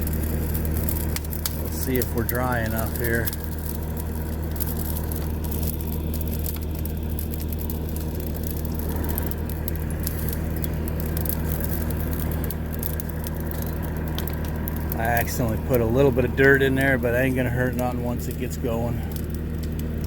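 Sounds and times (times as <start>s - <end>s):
brush pile fire crackling: 0.0s - 20.0s
diesel engine idling: 0.0s - 20.0s.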